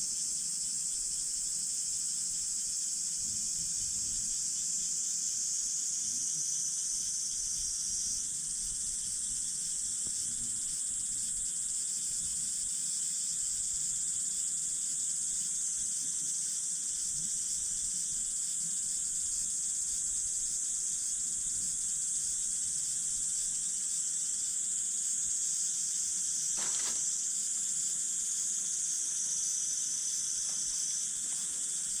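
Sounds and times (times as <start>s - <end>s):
campfire hissing: 0.0s - 32.0s
insects trilling: 0.0s - 32.0s.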